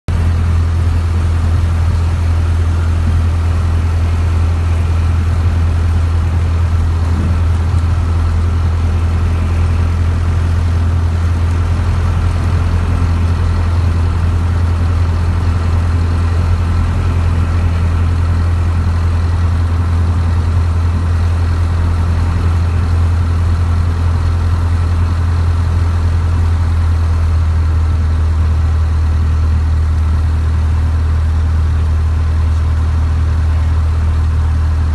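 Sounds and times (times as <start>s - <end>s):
propeller plane engine drone: 0.1s - 34.9s.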